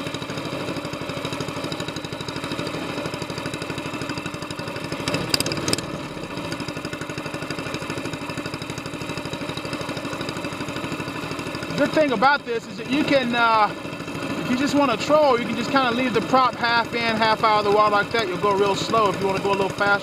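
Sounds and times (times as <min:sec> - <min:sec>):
boat motor engine running: 0:00.0 - 0:20.0.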